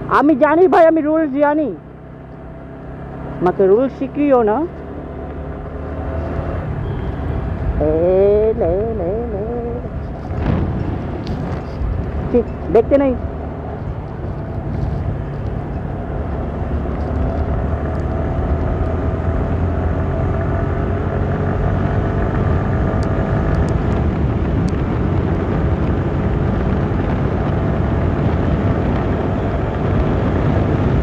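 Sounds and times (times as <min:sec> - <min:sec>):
motorcycle engine running: 0:00.0 - 0:31.0
wind and road noise: 0:00.0 - 0:31.0.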